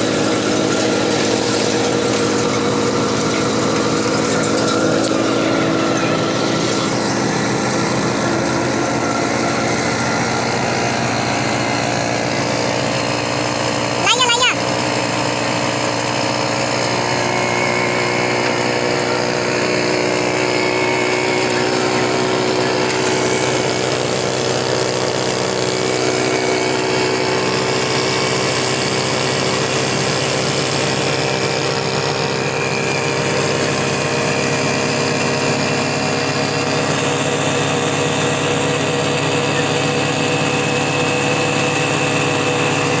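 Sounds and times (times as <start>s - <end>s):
motorcycle engine under load: 0.0s - 43.0s
thresher running: 0.0s - 43.0s.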